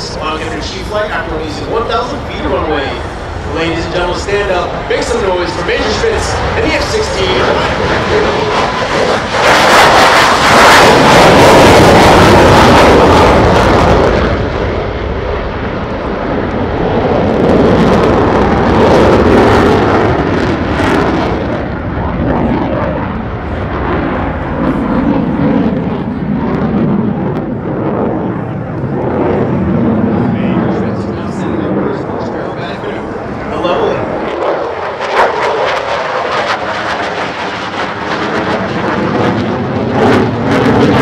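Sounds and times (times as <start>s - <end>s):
jet engine afterburner roar: 0.0s - 41.0s.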